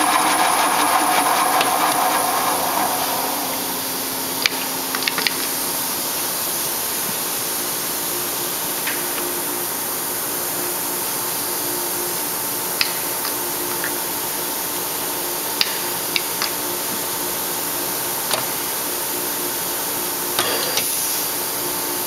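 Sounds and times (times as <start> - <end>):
machine motors and pumps humming: 0.0 - 22.0
machine whirring: 0.0 - 22.0.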